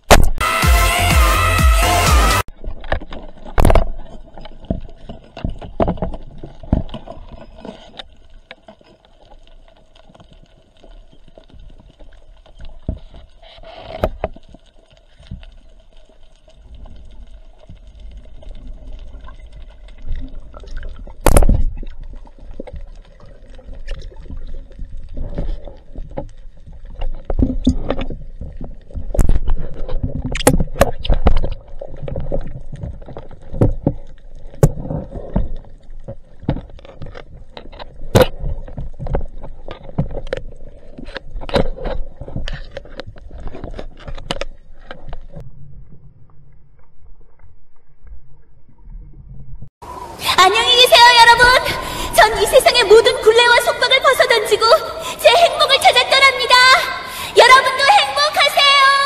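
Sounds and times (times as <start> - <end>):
muffled underwater water movement: 2.5 - 59.0.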